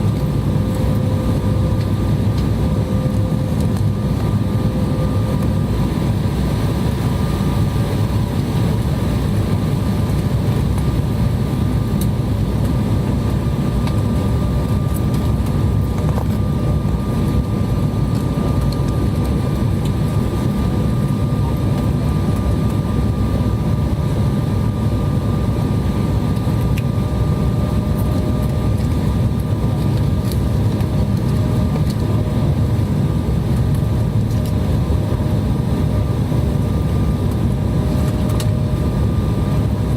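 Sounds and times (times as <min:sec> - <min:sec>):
jet engine and airflow rush: 0:00.0 - 0:39.9.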